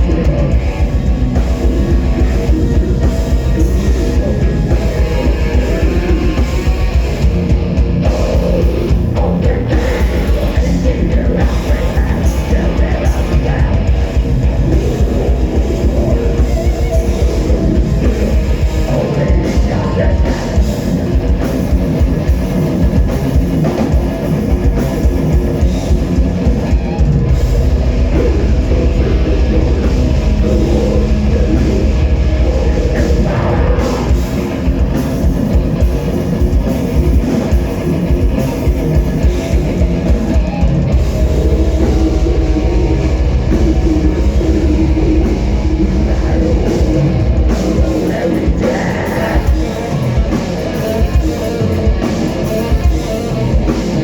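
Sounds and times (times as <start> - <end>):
bass guitar: 0.0 - 54.0
distorted electric guitars: 0.0 - 54.0
pounding drum kit: 0.0 - 54.0.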